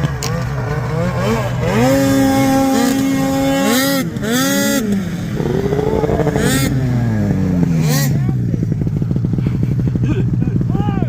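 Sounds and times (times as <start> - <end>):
snowmobile engine revving: 0.0 - 11.0.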